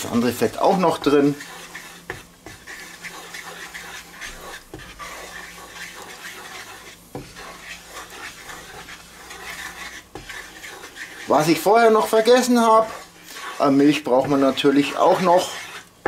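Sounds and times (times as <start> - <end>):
roux sizzling in frying pan: 0.0 - 16.0
wooden spoon scraping pan: 0.0 - 16.0.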